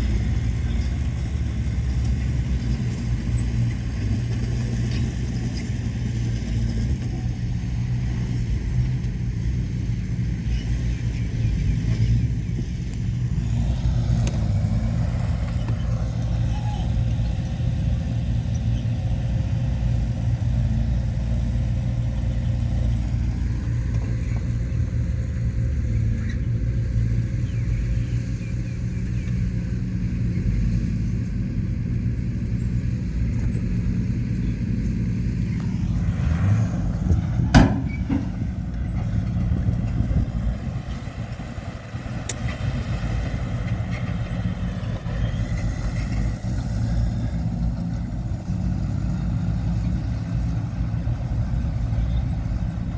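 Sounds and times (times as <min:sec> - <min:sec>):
heavy machinery diesel engines: 0:00.0 - 0:52.9.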